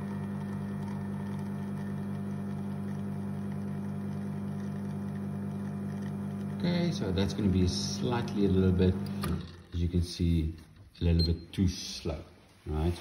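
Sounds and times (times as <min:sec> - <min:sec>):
espresso machine pump humming: 0:00.0 - 0:10.8.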